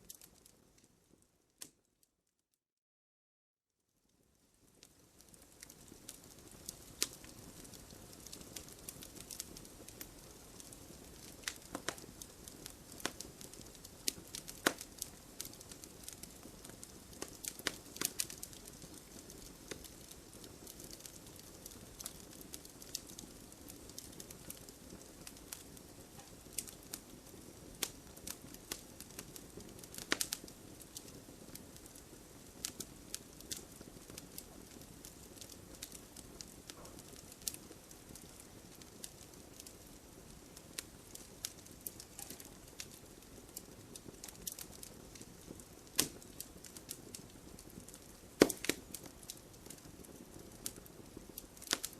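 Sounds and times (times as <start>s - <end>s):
logs crackling and popping: 0.0s - 0.9s, 4.7s - 51.9s
fire hissing: 5.6s - 51.9s.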